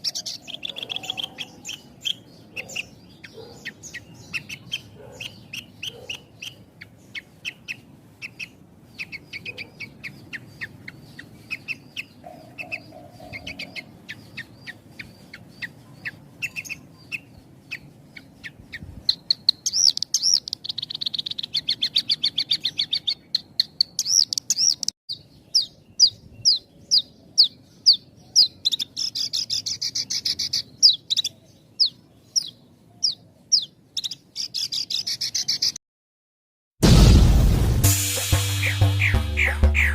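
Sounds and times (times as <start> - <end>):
lark singing: 0.0 - 35.8, 38.6 - 39.9.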